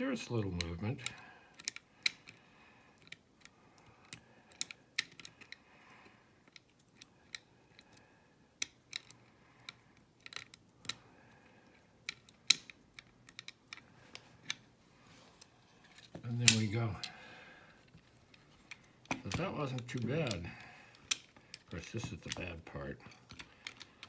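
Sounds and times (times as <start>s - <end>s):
lock-picking tools clicking: 0.5s - 5.6s, 6.4s - 8.0s, 8.6s - 11.0s, 11.6s - 14.6s, 15.9s - 17.2s, 17.9s - 24.0s.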